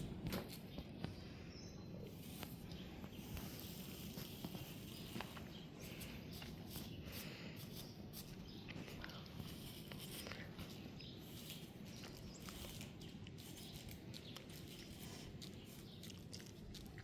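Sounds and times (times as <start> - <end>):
low outdoor background hum: 0.0 - 17.0.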